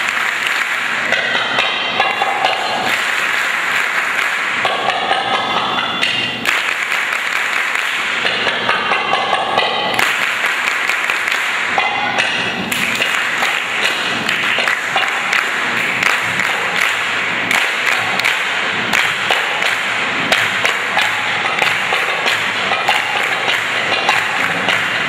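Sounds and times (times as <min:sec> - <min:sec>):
hand clapping: 0:00.0 - 0:25.0.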